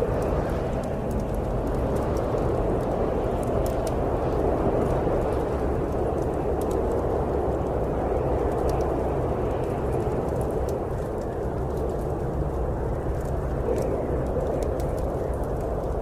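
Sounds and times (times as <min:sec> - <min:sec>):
storm wind: 0:00.0 - 0:16.0
wood fire crackling: 0:00.0 - 0:16.0.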